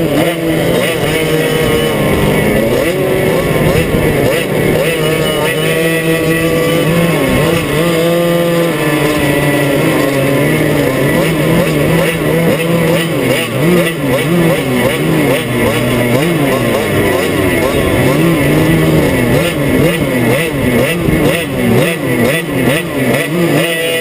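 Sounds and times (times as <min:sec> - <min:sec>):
two-stroke kart engine running: 0:00.0 - 0:24.0.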